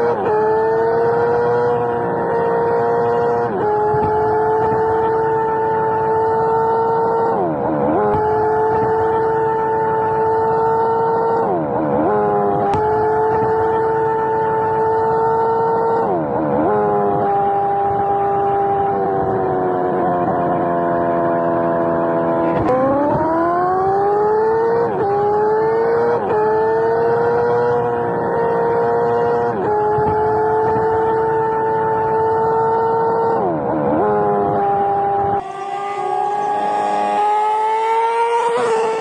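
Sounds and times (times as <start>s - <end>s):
motorcycle engine at high revs: 0.0s - 39.0s.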